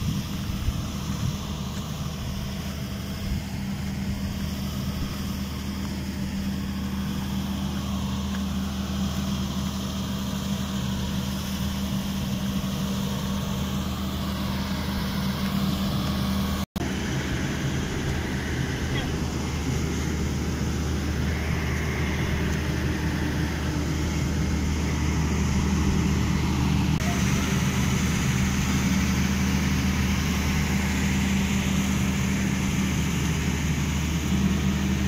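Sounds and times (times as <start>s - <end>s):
low steady hum: 0.0s - 35.0s
rushing water noise: 0.0s - 35.0s.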